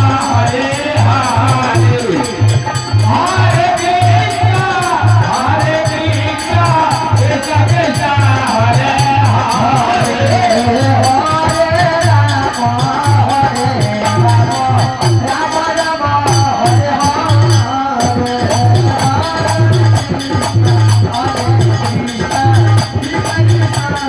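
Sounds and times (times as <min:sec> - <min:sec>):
jingling percussion rattle: 0:00.0 - 0:24.0
low drum beat: 0:00.0 - 0:24.0.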